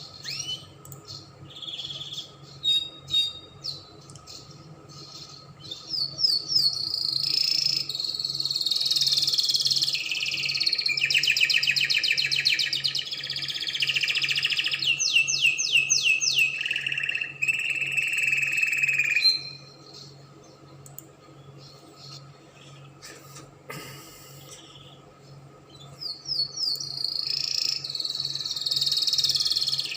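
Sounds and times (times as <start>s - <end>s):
canary singing trills: 0.0s - 23.0s, 24.5s - 29.9s.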